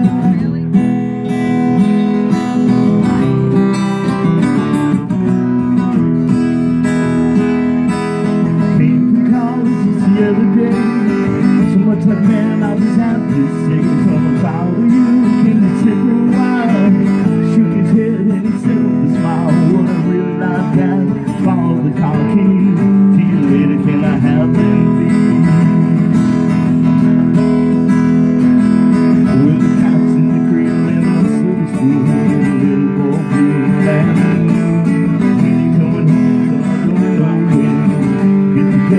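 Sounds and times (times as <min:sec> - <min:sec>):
acoustic guitars strumming: 0:00.0 - 0:38.9.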